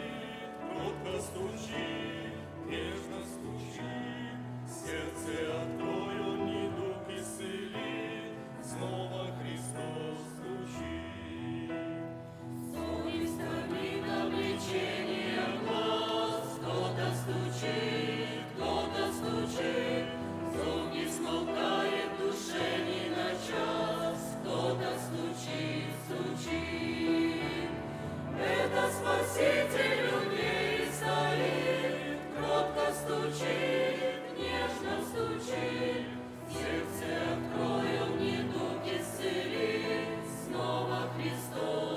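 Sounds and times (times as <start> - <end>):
church choir singing a hymn: 0.0 - 41.9
low musical accompaniment: 0.0 - 41.9.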